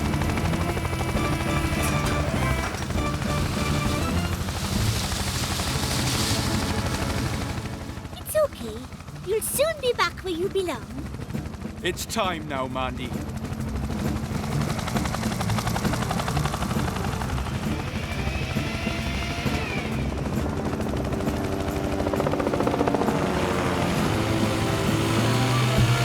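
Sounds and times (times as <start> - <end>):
cartoon helicopter rotor chopping: 0.0 - 26.0
music playing: 0.0 - 26.0.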